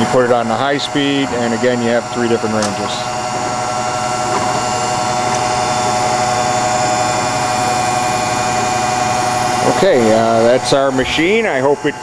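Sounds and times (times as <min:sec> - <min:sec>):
grinder machine whine: 0:00.0 - 0:12.0
machine hum: 0:00.0 - 0:12.0.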